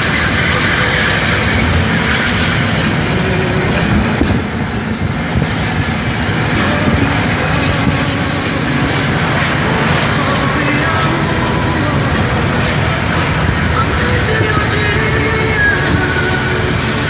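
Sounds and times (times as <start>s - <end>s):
truck diesel engine braking drone: 0.0s - 17.0s.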